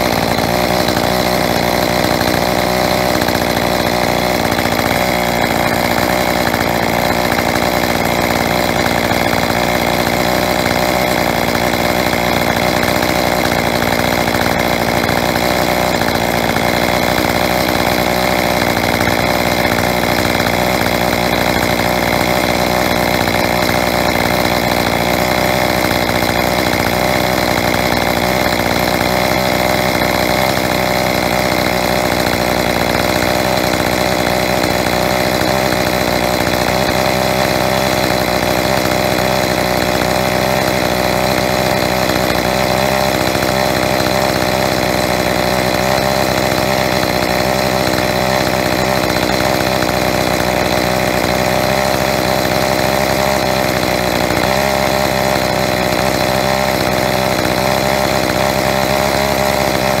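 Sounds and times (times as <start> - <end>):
chainsaw engine running: 0.0 - 60.0.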